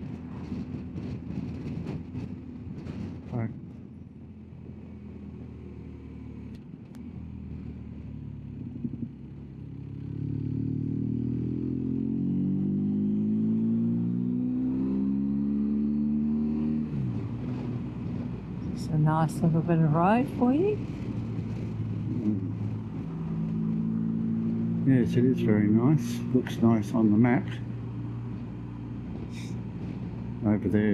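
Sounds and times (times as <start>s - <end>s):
wind and road rush: 0.0s - 30.9s.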